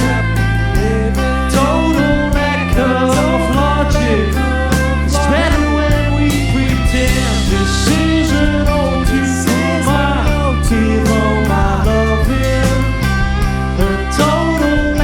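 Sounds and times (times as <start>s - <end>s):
rock band playing instrumental: 0.0s - 15.0s
steady drum beat: 0.0s - 15.0s.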